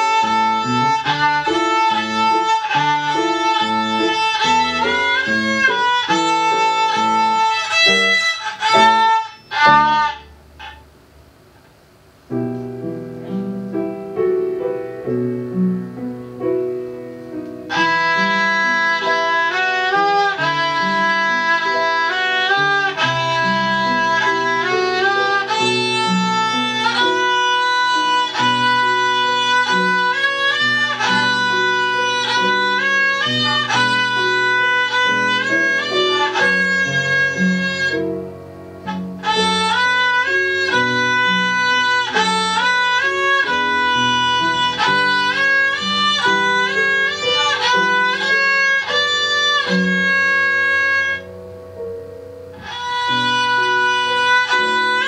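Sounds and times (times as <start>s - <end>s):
violin playing a melody: 0.0s - 10.8s, 12.8s - 55.0s
instrumental accompaniment: 0.0s - 55.0s.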